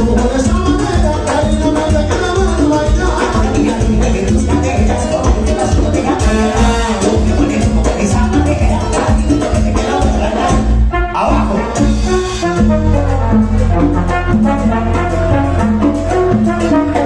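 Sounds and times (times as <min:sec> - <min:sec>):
congas and timbales: 0:00.0 - 0:17.0
trumpet and trombone: 0:00.0 - 0:17.0.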